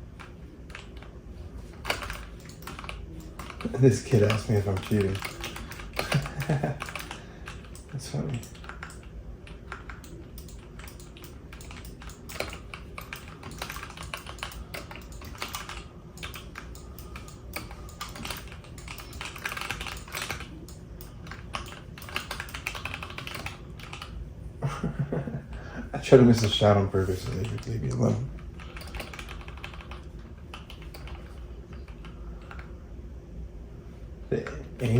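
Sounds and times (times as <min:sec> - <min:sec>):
computer keyboard clicking: 0:00.2 - 0:01.1, 0:01.8 - 0:24.2, 0:26.4 - 0:32.7.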